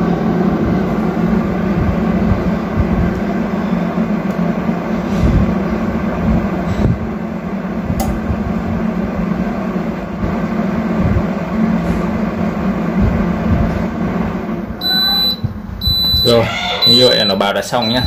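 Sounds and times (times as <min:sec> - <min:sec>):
oven beeping: 0:00.0 - 0:18.0
oven fan humming: 0:00.0 - 0:18.0.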